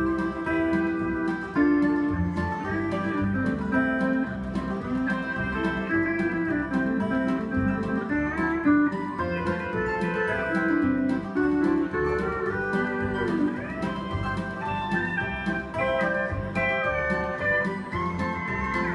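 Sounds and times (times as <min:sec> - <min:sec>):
pedal steel guitar playing: 0:00.0 - 0:18.9.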